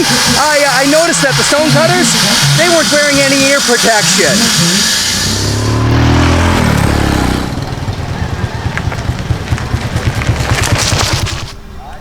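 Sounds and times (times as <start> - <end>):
motorcycle engines chugging: 0.0 - 11.9.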